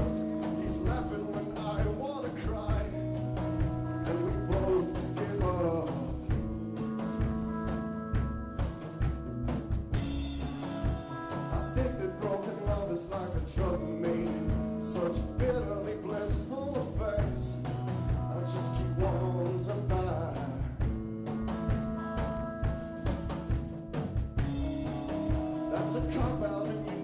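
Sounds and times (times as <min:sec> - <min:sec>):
drum kit beat: 0:00.0 - 0:27.0
live rock band playing: 0:00.0 - 0:27.0.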